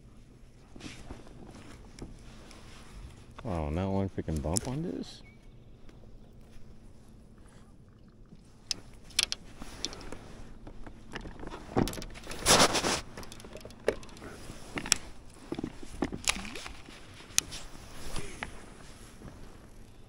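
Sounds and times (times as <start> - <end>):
gear clicking and rattling in boat: 0.2 - 7.6, 8.2 - 20.0.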